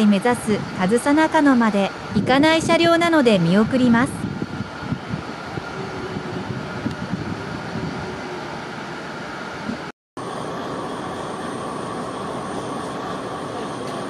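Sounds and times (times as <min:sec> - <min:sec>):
diesel railcar engine rumble: 0:00.0 - 0:14.0.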